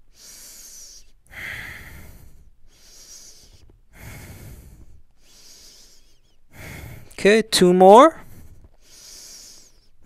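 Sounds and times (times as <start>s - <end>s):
person breathing slowly: 0.0s - 7.2s, 8.2s - 10.0s.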